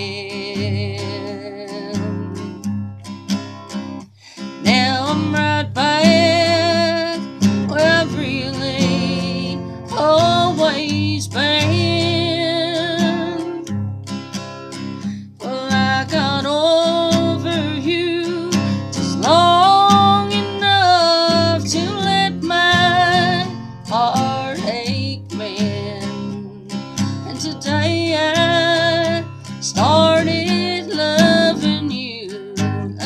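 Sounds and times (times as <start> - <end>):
woman singing: 0.0 - 2.7, 4.3 - 13.8, 15.2 - 33.0
acoustic guitar strumming: 0.0 - 33.0.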